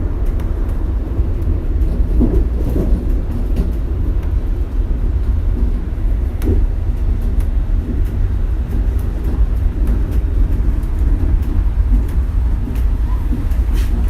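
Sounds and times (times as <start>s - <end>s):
monorail car rumbling: 0.0s - 14.0s.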